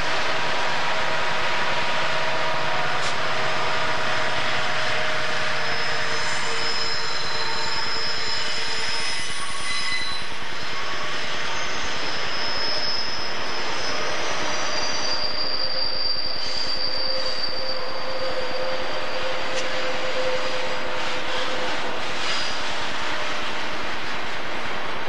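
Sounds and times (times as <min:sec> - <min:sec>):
diesel locomotive engine drone: 0:00.0 - 0:25.0
high wheel squeals: 0:02.0 - 0:23.7.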